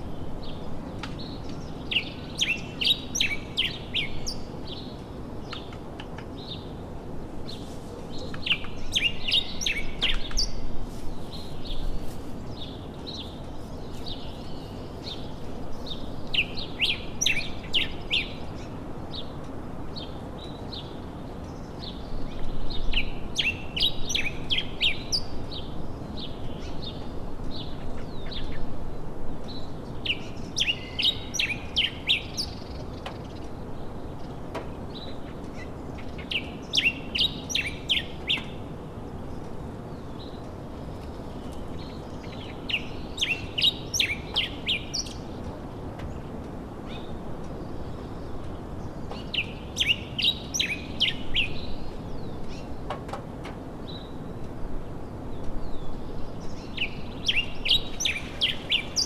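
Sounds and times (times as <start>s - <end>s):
small birds chirping: 0.0s - 52.9s, 53.6s - 59.0s
low background hiss: 0.0s - 59.0s.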